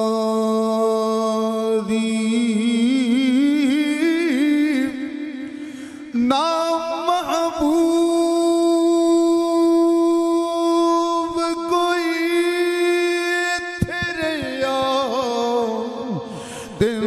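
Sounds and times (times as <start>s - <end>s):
man chanting unaccompanied: 0.0s - 17.0s.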